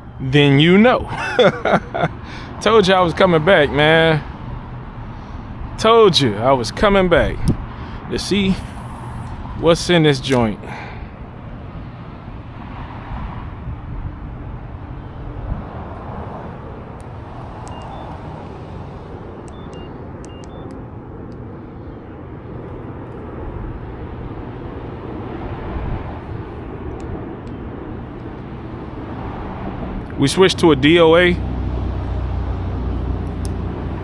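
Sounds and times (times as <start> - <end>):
outdoor rumble and hiss: 0.0 - 34.0.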